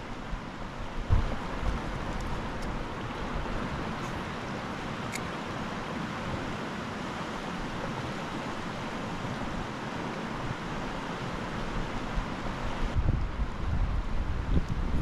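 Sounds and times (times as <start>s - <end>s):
river rushing over rocks: 0.0s - 14.5s.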